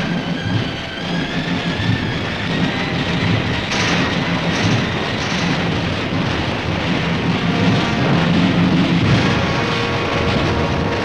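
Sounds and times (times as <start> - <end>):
tank engine rumbling: 0.0 - 11.0
tracks clattering and squealing: 0.0 - 11.0.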